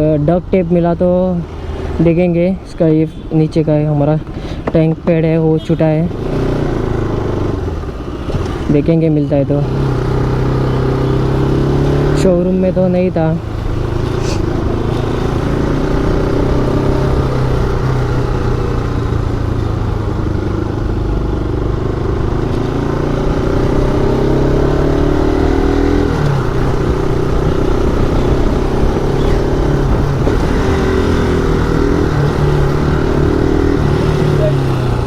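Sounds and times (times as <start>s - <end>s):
motorcycle engine revving: 5.8s - 35.0s.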